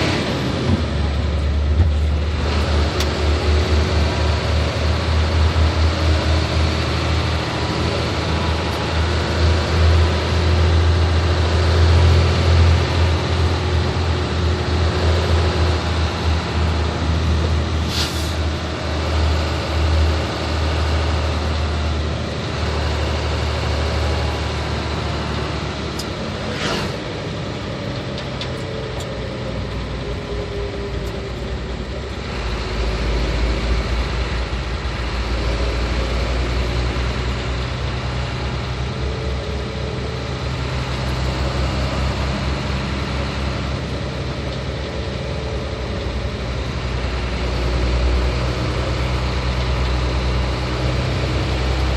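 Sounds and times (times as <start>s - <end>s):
truck diesel engine running: 0.0s - 51.9s.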